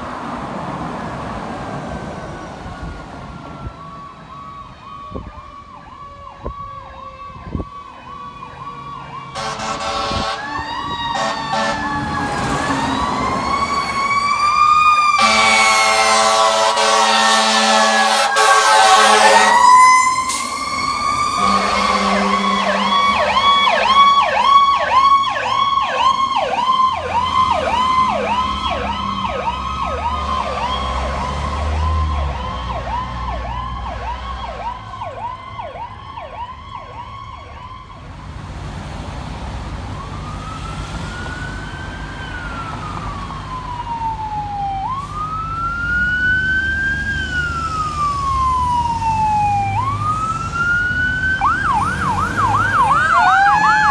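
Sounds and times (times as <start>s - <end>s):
fire truck siren wail: 0.0s - 53.9s
fire truck siren yelp: 0.0s - 53.9s.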